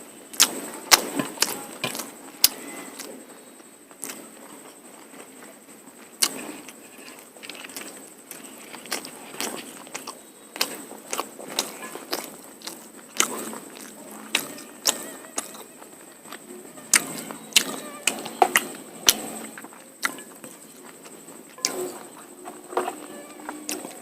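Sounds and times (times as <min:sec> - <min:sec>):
person chewing food: 0:00.4 - 0:03.2, 0:03.9 - 0:24.0.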